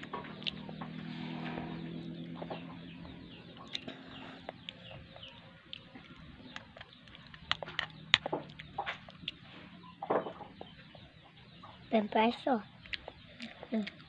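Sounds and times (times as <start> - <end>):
birds chirping: 0.0 - 14.0
low steady hum: 0.0 - 14.0.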